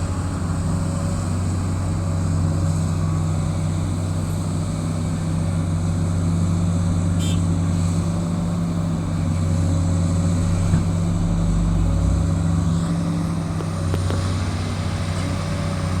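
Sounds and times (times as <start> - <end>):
heavy diesel engines droning: 0.0 - 16.0.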